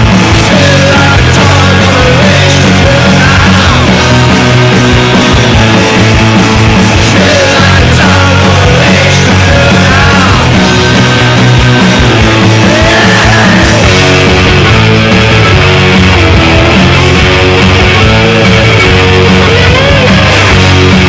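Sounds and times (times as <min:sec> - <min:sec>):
drum kit beat: 0:00.0 - 0:21.0
electric guitars: 0:00.0 - 0:21.0.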